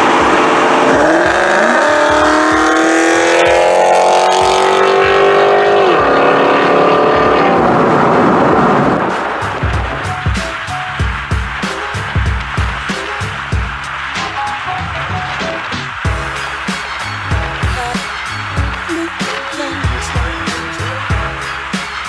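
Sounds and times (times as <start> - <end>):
car exhaust revving: 0.0 - 22.0.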